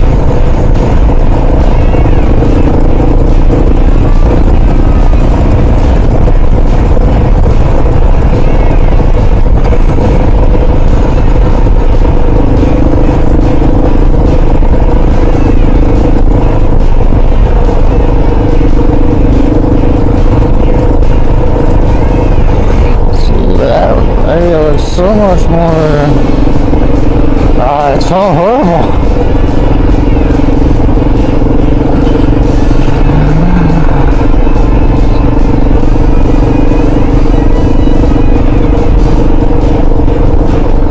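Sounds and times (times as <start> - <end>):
motorcycle engine running: 0.0 - 40.9
rushing road noise: 0.0 - 40.9.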